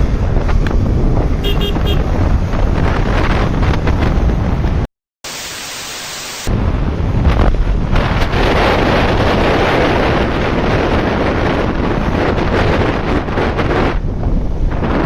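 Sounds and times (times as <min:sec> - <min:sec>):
wind rushing over microphone: 0:00.0 - 0:04.9, 0:06.4 - 0:15.0.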